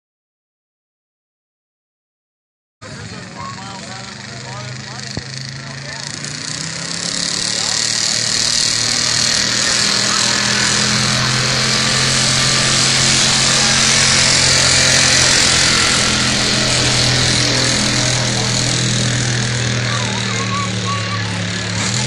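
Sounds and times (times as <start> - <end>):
truck engine at high revs: 2.8 - 22.0.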